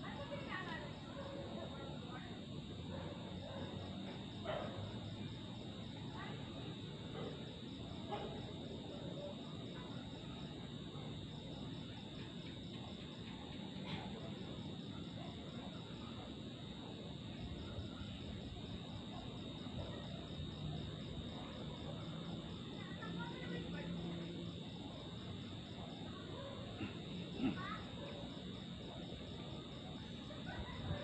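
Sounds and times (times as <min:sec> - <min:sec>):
crickets trilling: 0:00.0 - 0:31.0
fast pulsing insect chirp: 0:00.0 - 0:31.0.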